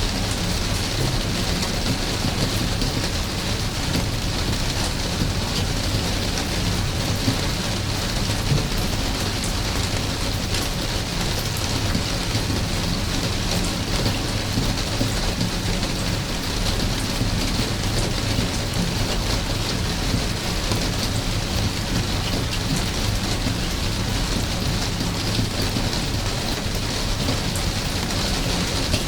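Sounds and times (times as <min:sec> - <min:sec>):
raindrops ticking: 0:00.0 - 0:29.0.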